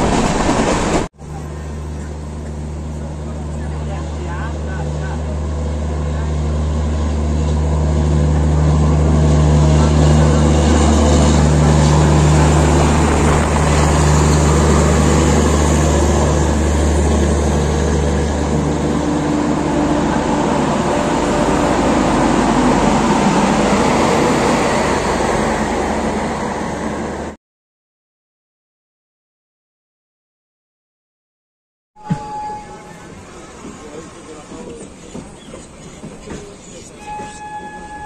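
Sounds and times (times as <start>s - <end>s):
passenger train rumbling: 0.0s - 27.4s, 32.0s - 38.0s.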